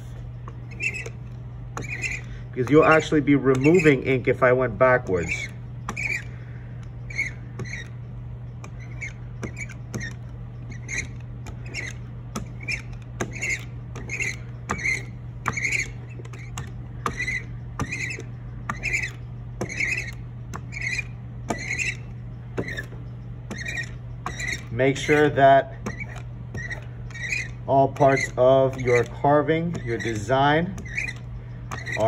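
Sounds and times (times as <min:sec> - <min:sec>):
rubber roller rolling sticky ink: 0:00.0 - 0:32.0
steady low hum: 0:00.0 - 0:32.0.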